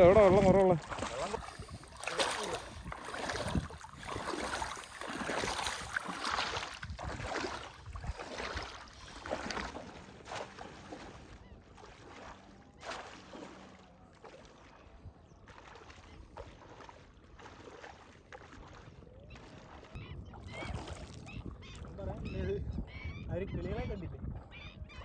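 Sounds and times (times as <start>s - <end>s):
water sloshing around wading legs: 0.0s - 23.0s.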